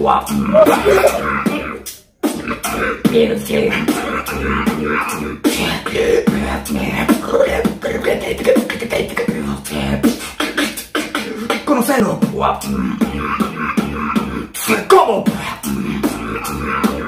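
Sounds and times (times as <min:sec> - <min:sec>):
beatboxing: 0:00.0 - 0:17.0
pitched vocal sounds: 0:00.0 - 0:17.0.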